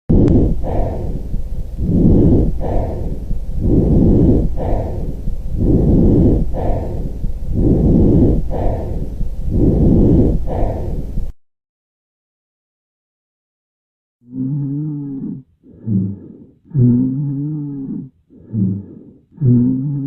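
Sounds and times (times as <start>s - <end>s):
coarse breathing through stethoscope: 0.1s - 11.4s, 14.3s - 20.0s.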